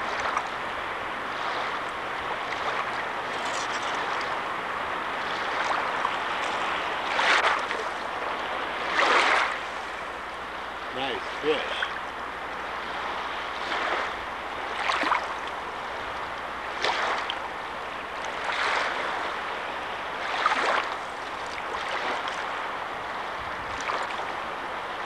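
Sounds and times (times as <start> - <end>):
river water running: 0.0 - 25.0
water splashing surges: 0.0 - 25.0.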